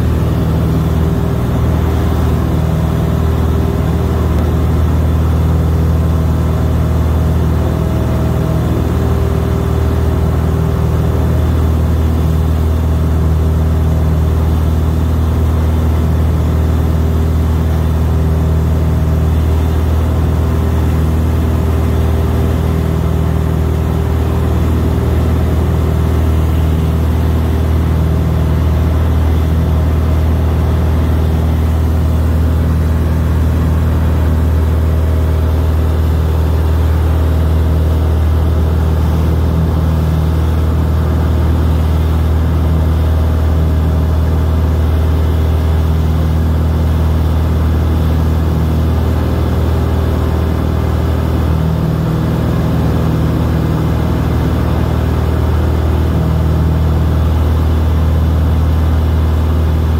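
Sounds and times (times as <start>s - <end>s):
aircraft engine drone in cabin: 0.0s - 59.9s.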